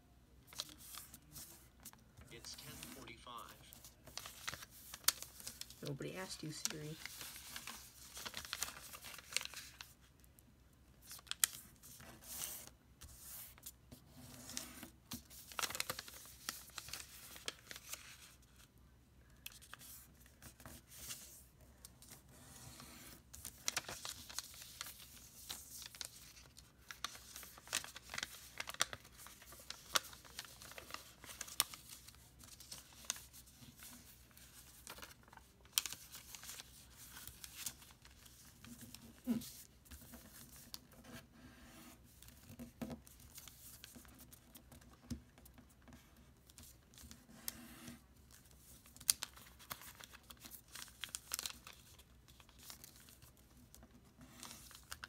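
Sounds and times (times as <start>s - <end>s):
paper rustling and crinkling: 0.5s - 10.2s, 11.0s - 18.7s, 19.4s - 55.0s.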